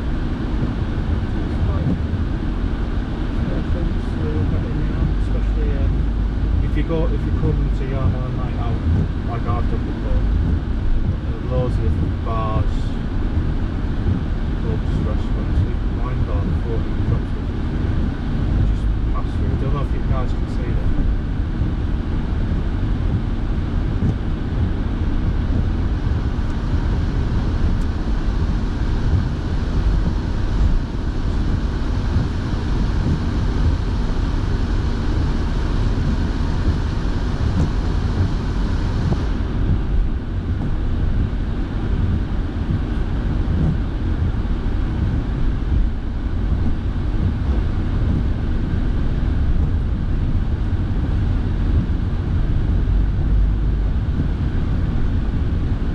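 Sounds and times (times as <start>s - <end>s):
car road and engine rumble: 0.0s - 55.9s
heater fan blowing: 0.0s - 55.9s.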